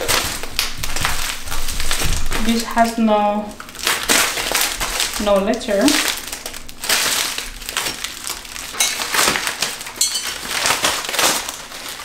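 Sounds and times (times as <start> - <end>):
plastic wrap and foam crinkling: 0.0 - 12.0.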